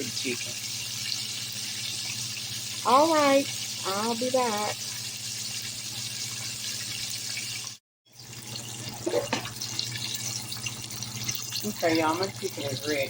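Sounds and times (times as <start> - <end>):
chicken wings frying in oil: 0.0 - 13.0.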